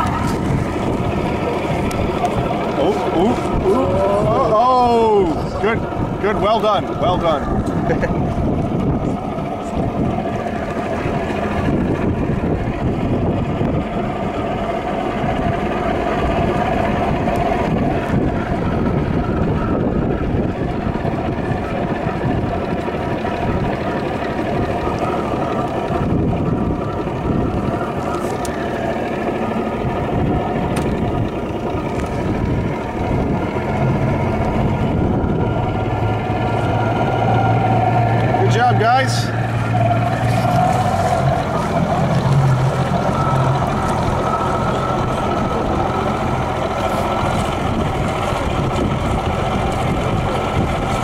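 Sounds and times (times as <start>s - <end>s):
boat motor running: 0.0s - 51.0s.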